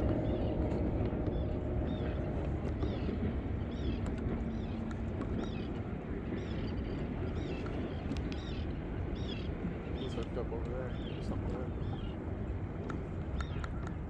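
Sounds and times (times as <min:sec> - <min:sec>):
boat motor rumbling: 0:00.0 - 0:14.0
faint hum: 0:00.0 - 0:14.0
water: 0:00.0 - 0:14.0
wind: 0:00.0 - 0:14.0.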